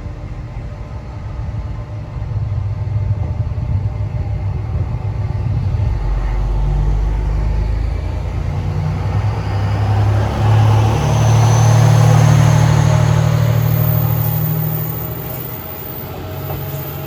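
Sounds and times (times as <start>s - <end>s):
railcar engine humming: 0.0s - 17.0s.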